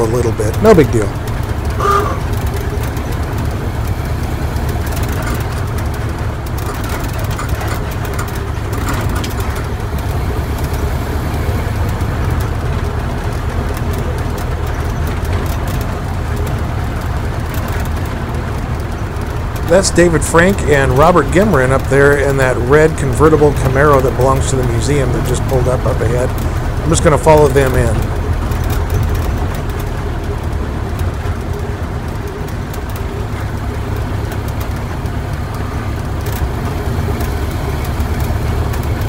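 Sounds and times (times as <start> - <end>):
old truck engine rumble: 0.0 - 39.0.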